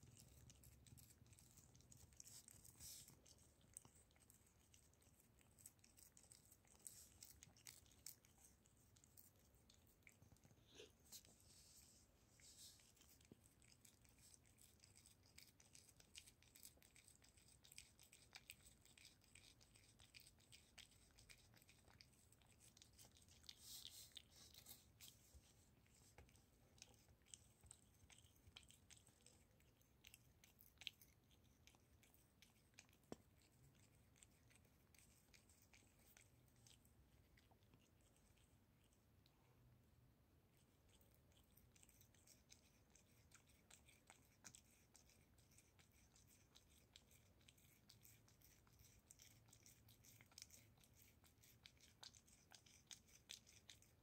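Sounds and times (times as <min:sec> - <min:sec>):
cat licking and chewing: 0:00.0 - 0:54.0.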